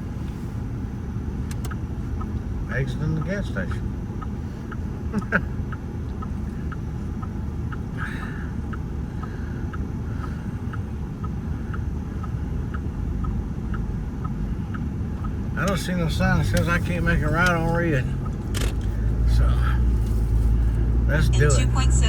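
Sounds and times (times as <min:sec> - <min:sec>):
car engine idling: 0:00.0 - 0:22.0
turn signal ticking: 0:00.0 - 0:22.0.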